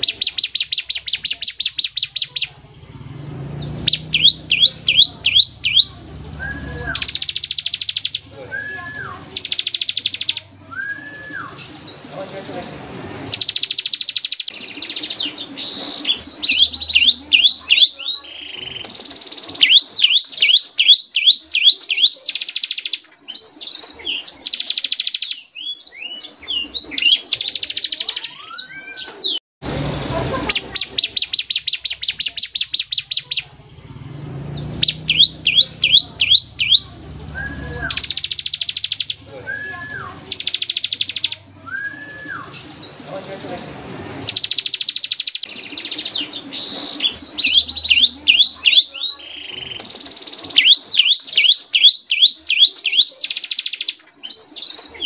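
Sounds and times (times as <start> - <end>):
bird singing fast trills: 0.0 - 29.4, 30.4 - 55.0.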